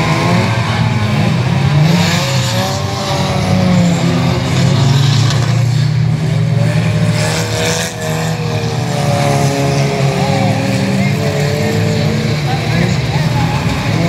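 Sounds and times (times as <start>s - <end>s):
racing car engines revving: 0.0s - 14.0s.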